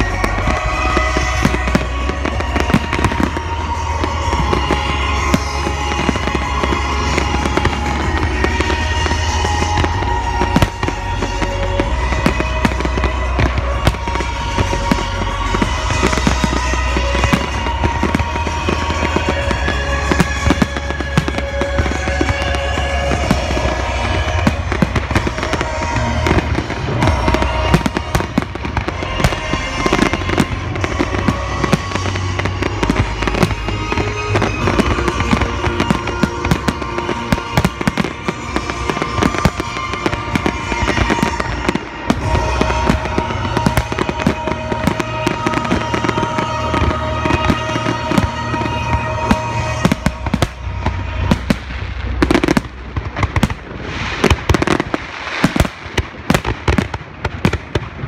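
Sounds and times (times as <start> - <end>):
fireworks bursting and crackling: 0.0 - 58.0
music playing: 0.0 - 58.0.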